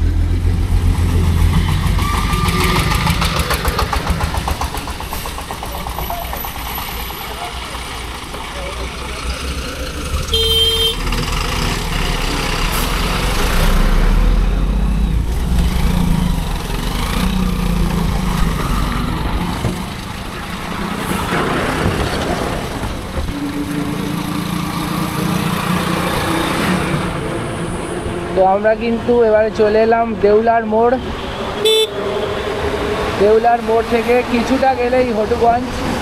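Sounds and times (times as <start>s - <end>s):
passing vehicle hum: 0.0s - 36.0s
road traffic noise: 0.0s - 36.0s.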